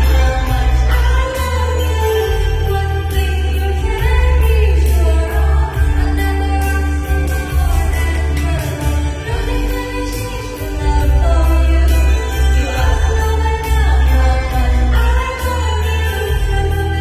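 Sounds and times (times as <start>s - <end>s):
backing track with bass and beat: 0.0s - 17.0s
person singing: 0.0s - 17.0s.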